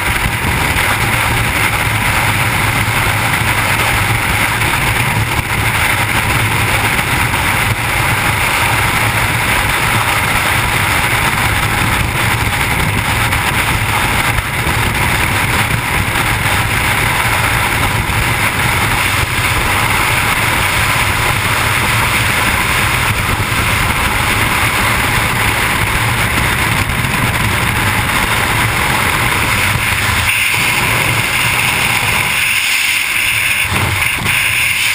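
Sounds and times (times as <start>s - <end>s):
wind roaring over microphone: 0.0s - 34.9s.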